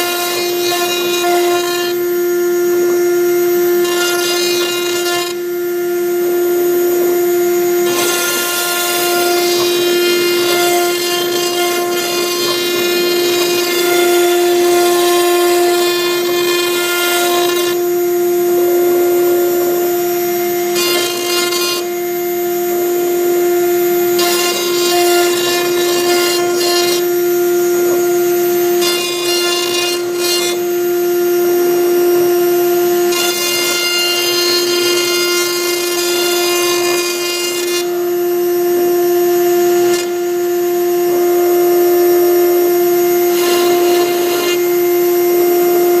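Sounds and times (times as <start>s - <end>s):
router spindle high whine: 0.0s - 46.0s.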